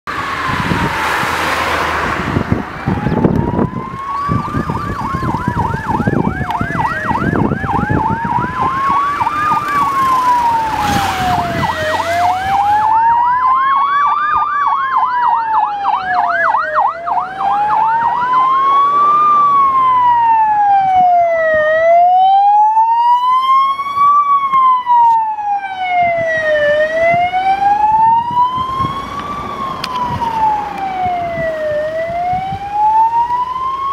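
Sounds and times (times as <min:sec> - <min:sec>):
vehicle passing: 0:00.1 - 0:22.0, 0:25.6 - 0:33.9
siren fast yelp: 0:00.1 - 0:33.9
siren wail: 0:00.1 - 0:33.9.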